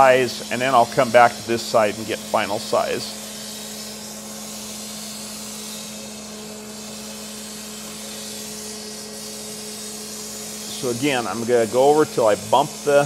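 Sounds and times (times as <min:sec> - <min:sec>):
even hiss: 0:00.0 - 0:13.0
grinder low hum: 0:00.0 - 0:13.0.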